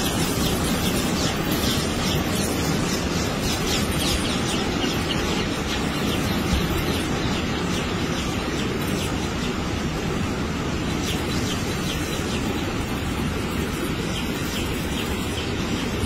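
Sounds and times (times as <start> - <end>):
steady rushing outdoor noise: 0.0 - 16.0.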